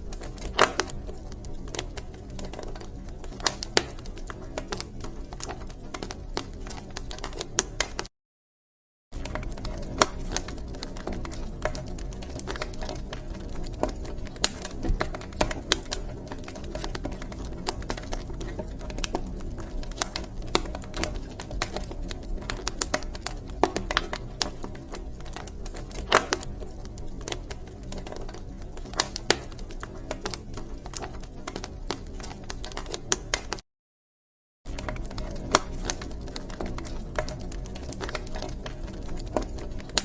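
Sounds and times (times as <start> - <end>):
wood fire crackling: 0.0 - 8.1, 9.2 - 33.6, 34.7 - 40.0.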